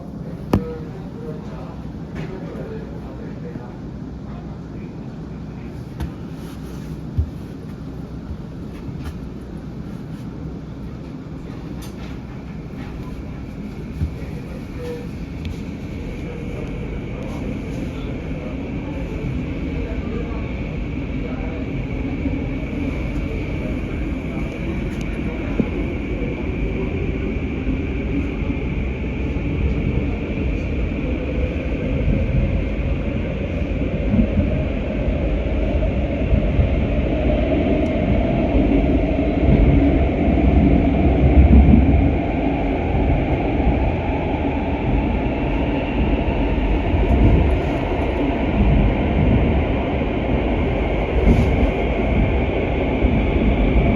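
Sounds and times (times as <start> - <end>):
train rumbling in tunnel: 0.0 - 53.9.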